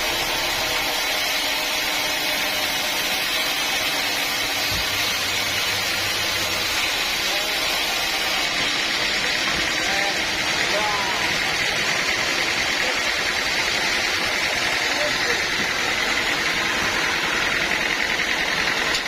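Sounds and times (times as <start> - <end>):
band sawmill running: 0.0 - 19.0.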